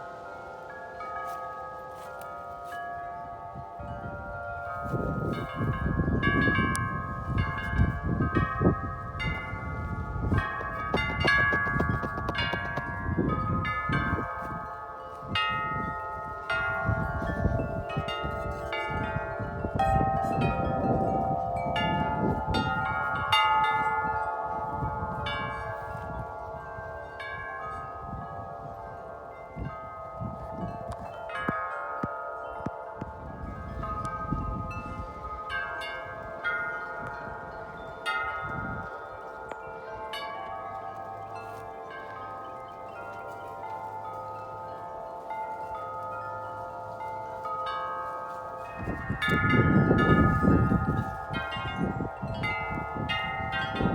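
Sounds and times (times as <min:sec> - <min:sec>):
metal wind chimes ringing: 0:00.0 - 0:53.9
wind rumbling on microphone: 0:03.0 - 0:53.9.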